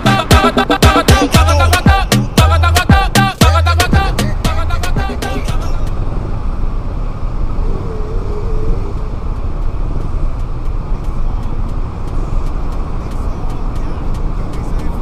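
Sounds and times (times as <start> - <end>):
low rumble of traffic engines: 0.0 - 15.0.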